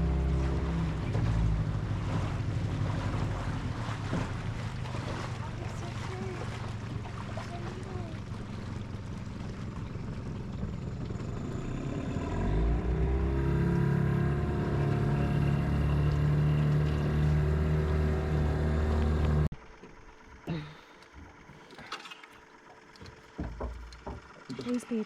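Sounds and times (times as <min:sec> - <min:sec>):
outboard motor running: 0:00.0 - 0:25.0
water noise: 0:00.0 - 0:25.0
wind: 0:00.0 - 0:25.0.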